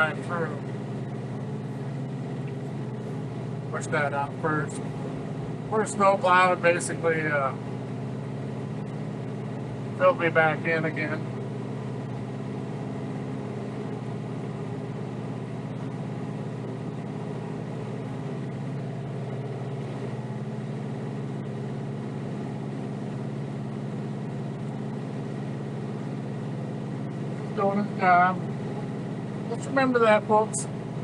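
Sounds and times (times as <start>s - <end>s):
diesel tractor engine running: 0.0s - 31.0s.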